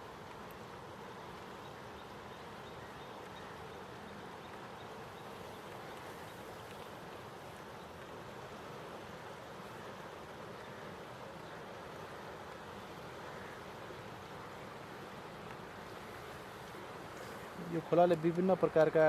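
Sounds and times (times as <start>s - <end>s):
flooded river rushing: 0.0s - 19.0s.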